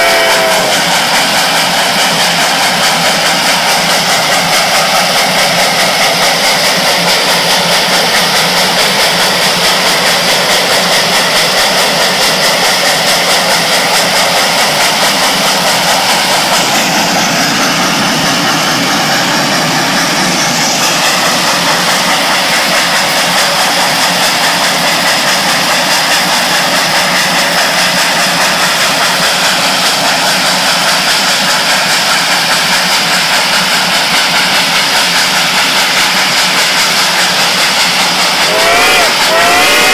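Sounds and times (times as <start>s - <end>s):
steam locomotive running: 0.0s - 39.9s.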